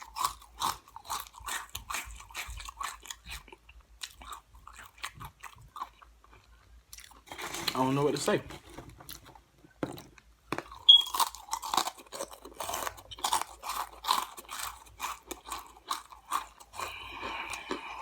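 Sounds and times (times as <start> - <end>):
crunchy chewing: 0.0 - 7.8, 10.0 - 18.0.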